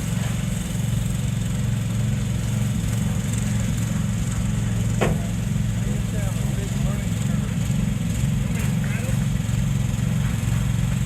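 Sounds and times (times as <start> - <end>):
mini excavator engine running: 0.0 - 11.0.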